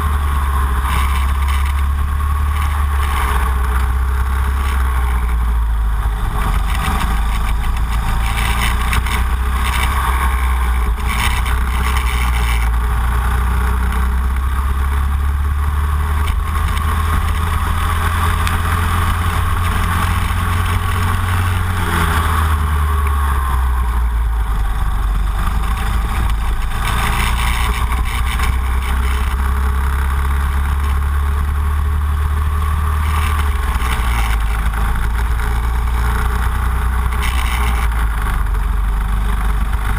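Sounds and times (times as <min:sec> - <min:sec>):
kart engine at speed: 0:00.0 - 0:39.9
wind rumble on microphone: 0:00.0 - 0:39.9.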